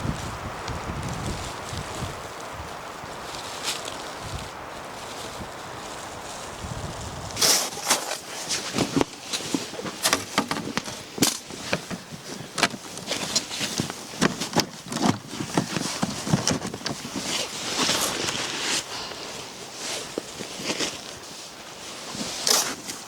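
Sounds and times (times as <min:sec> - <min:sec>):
snow crunching and scraping: 0:00.0 - 0:23.0.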